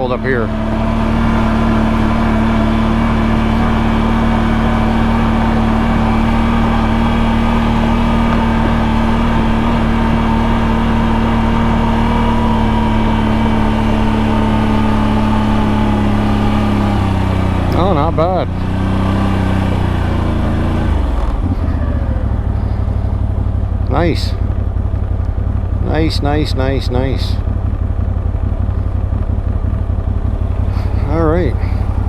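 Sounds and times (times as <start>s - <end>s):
quad engine under load: 0.0s - 32.0s.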